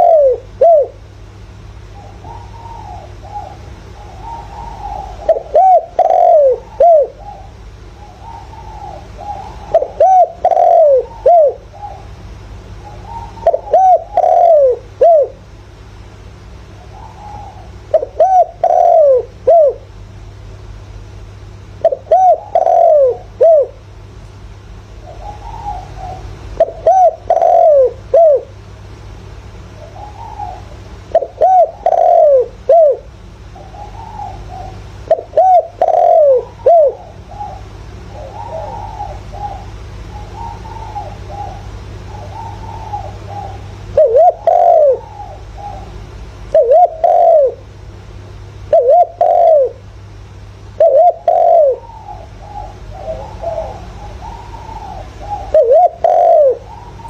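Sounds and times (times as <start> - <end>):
dove cooing: 0.0 - 15.5, 16.6 - 20.0, 21.8 - 23.9, 24.8 - 28.7, 29.6 - 57.0
steady low hum: 0.0 - 57.0.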